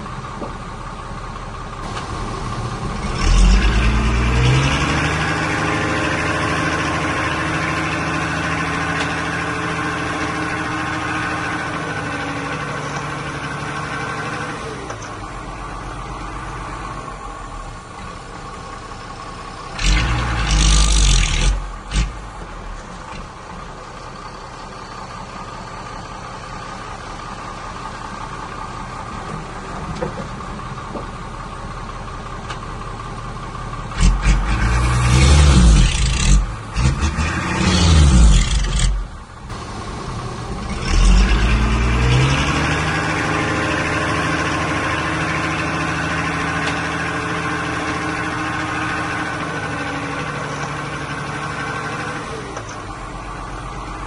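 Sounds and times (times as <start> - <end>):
diesel engine revving: 1.0 - 31.9, 32.8 - 54.0.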